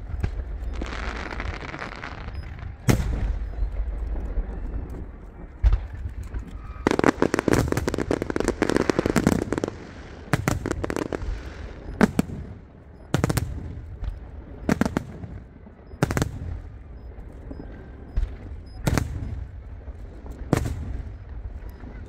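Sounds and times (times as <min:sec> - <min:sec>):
fireworks crackling bangs: 0:00.0 - 0:17.2, 0:18.2 - 0:22.0.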